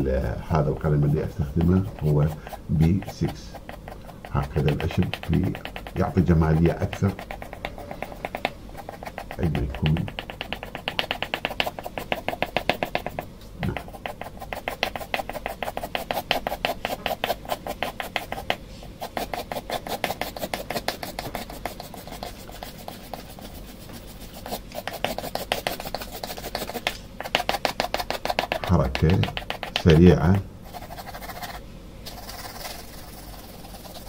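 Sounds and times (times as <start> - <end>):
pencil scratching on paper: 0.5 - 34.0.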